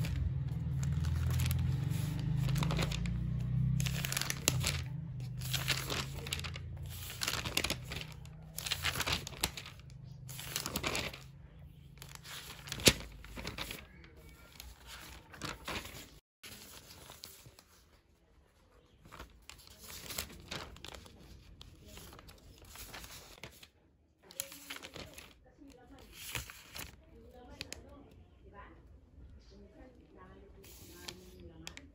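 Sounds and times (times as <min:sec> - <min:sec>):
paper pages turning: 0:00.0 - 0:18.0, 0:18.6 - 0:27.8, 0:30.6 - 0:31.9.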